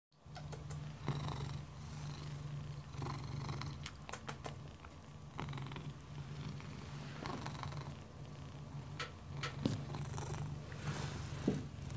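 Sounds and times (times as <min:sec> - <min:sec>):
cat purring: 0:00.3 - 0:11.9.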